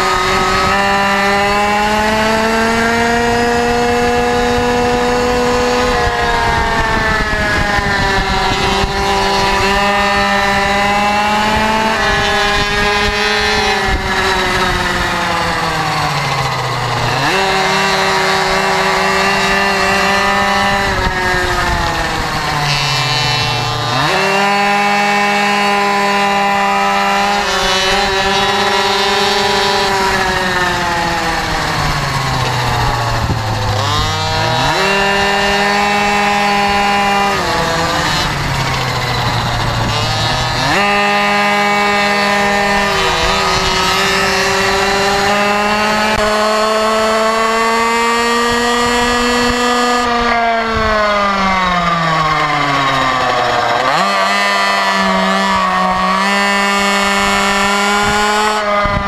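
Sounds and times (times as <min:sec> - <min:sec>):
wind on microphone: 0:00.0 - 0:53.2, 0:56.8 - 0:59.0
motorcycle engine at speed: 0:00.0 - 0:59.0.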